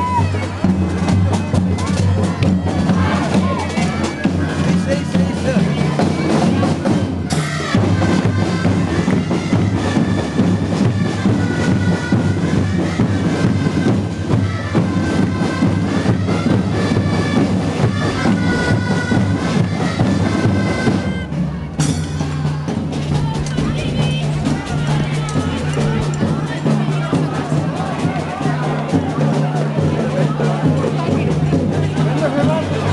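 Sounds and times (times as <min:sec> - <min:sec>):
band music: 0:00.0 - 0:29.6
steady drum beat: 0:00.0 - 0:32.9.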